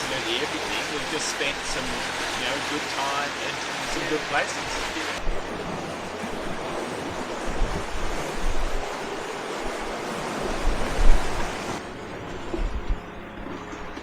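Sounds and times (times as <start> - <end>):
water splashing along a hull: 0.0 - 14.0
wind gusting on microphone: 0.0 - 14.0.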